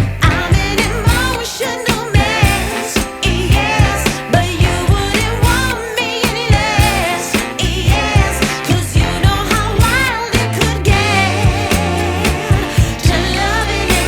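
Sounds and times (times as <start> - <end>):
pop song with female vocals: 0.0 - 14.0.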